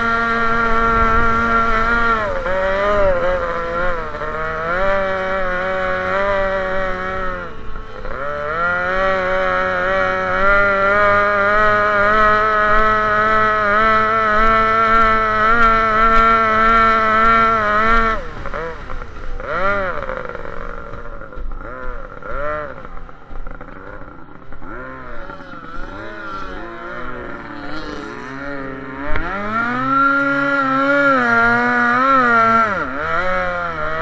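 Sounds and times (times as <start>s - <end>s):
racing boat engine: 0.0s - 34.0s.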